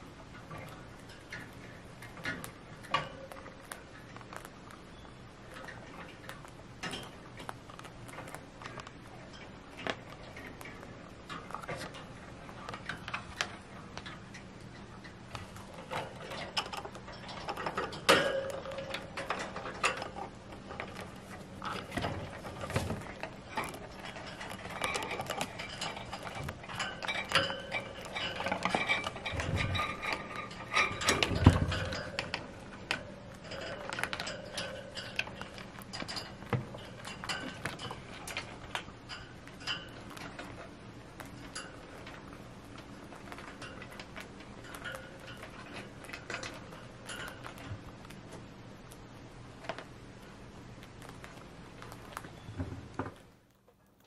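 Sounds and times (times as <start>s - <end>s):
chinchillas gnawing wood: 0.0s - 54.0s.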